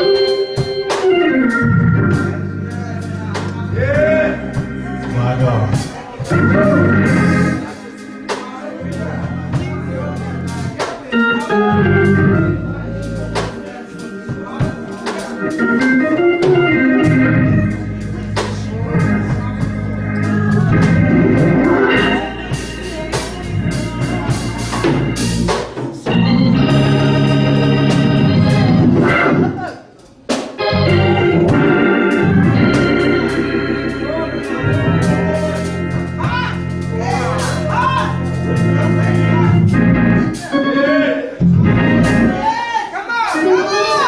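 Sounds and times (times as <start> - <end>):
church organ chords: 0.0 - 29.8, 30.6 - 42.5.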